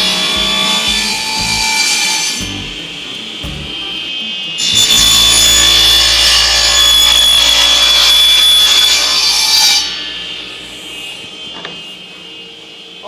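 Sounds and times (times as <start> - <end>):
power tool cutting wood: 0.0 - 12.4.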